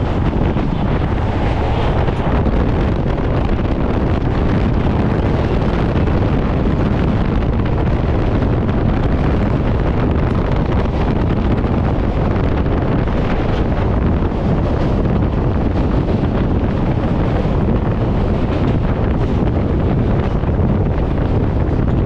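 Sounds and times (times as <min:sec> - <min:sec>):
train running noise: 0:00.0 - 0:22.0
wind on microphone: 0:00.0 - 0:22.0.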